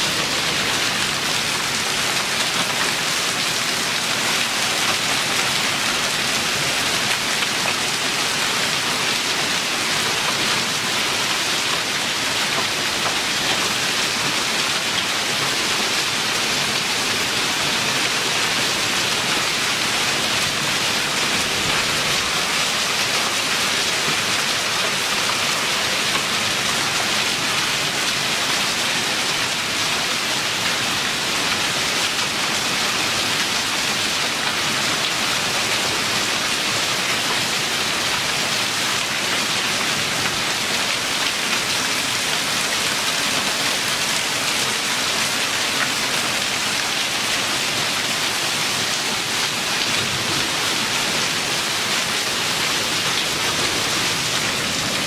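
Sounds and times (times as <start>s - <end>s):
heavy rain and hail: 0.0s - 55.0s.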